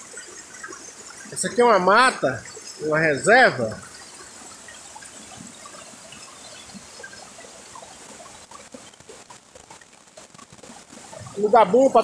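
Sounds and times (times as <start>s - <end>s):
stream trickling between rocks: 0.0s - 12.0s.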